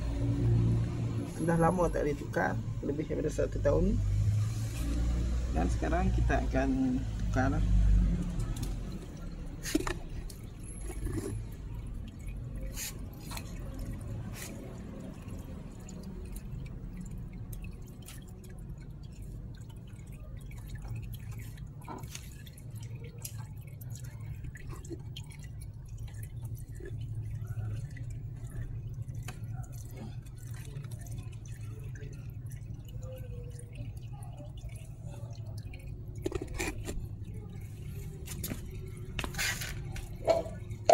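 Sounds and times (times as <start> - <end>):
engine oil draining into plastic can: 0.0 - 40.9
oil drips and splats: 0.0 - 40.9.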